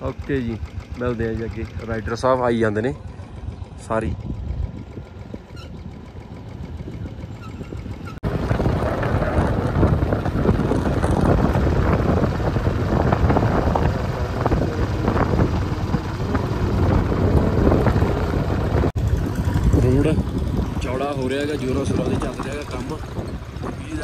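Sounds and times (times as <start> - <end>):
motorcycle riding: 0.0 - 24.0
wind rushing over microphone: 3.1 - 24.0.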